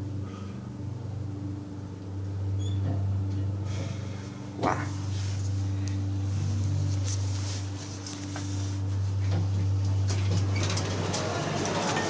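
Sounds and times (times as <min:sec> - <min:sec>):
lift humming: 0:00.0 - 0:12.0.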